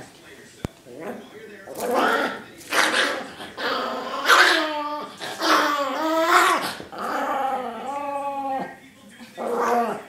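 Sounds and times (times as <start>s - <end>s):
small dog growling: 0.9s - 8.8s, 9.4s - 10.0s.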